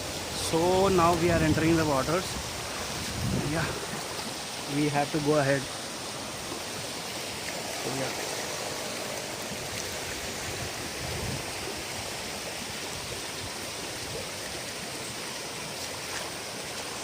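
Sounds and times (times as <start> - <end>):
fast-flowing water rushing: 0.0 - 17.0.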